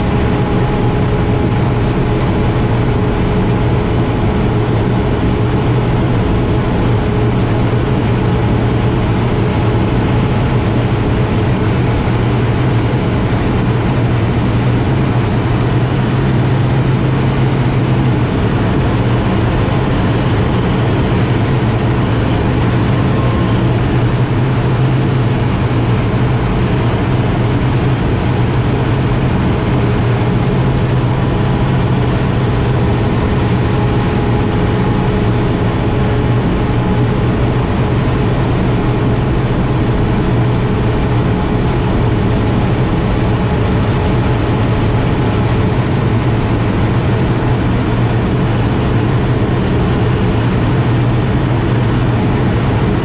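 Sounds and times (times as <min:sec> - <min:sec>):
turboprop engine drone in cockpit: 0:00.0 - 0:53.0.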